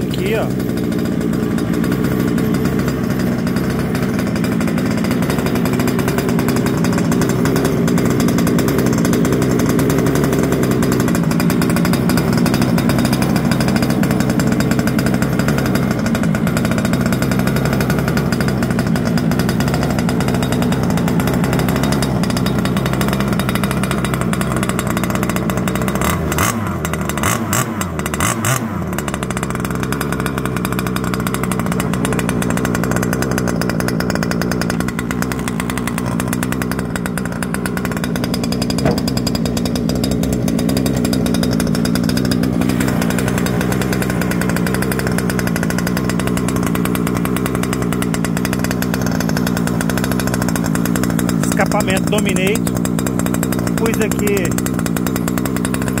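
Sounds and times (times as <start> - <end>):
small two-stroke engine running: 0.0 - 56.0.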